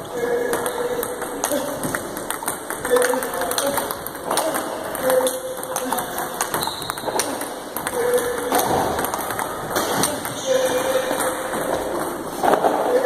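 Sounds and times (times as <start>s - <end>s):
table tennis balls clicking off bats: 0.3s - 12.8s
balls bouncing on tabletop: 0.4s - 12.7s.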